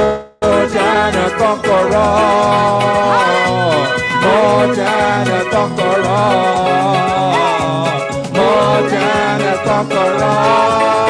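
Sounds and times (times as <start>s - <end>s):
worship band music: 0.0s - 11.0s.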